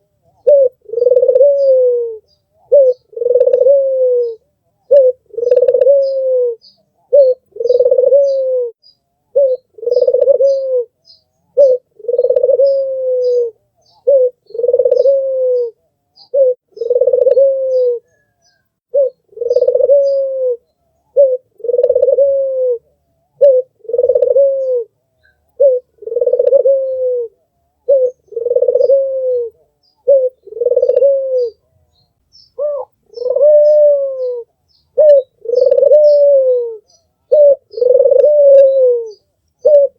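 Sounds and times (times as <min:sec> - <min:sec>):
small birds chirping: 0:00.0 - 0:22.3, 0:22.9 - 0:39.9
dove cooing: 0:00.0 - 0:39.9.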